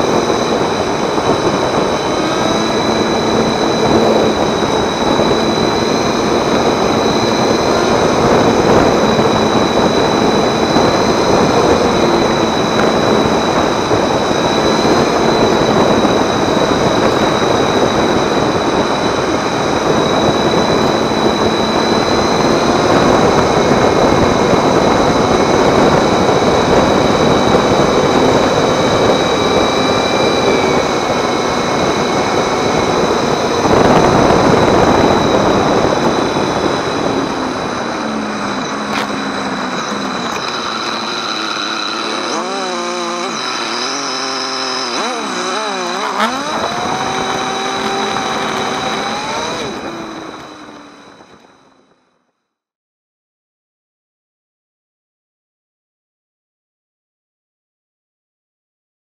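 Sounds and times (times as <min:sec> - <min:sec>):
wind rush: 0:00.0 - 0:51.8
motorcycle engine: 0:00.0 - 0:52.3.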